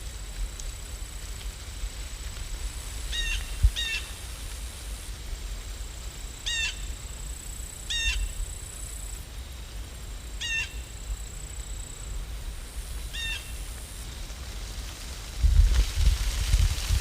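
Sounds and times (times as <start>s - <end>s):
outdoor ambience hiss and rumble: 0.0s - 17.0s.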